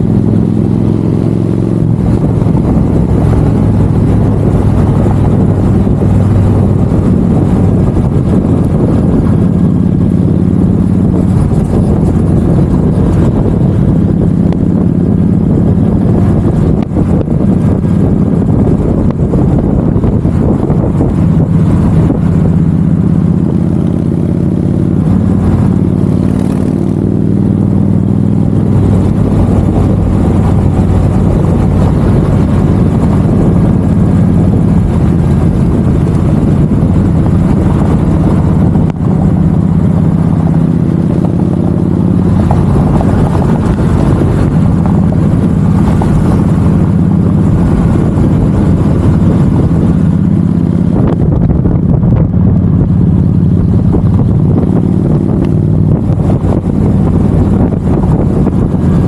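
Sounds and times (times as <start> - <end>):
road noise: 0.0 - 59.0
vehicle engine drone: 0.0 - 59.0.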